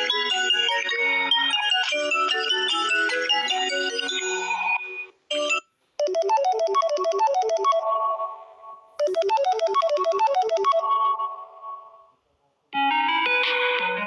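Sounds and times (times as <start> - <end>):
synthesized phone ringtone melody: 0.0 - 12.0.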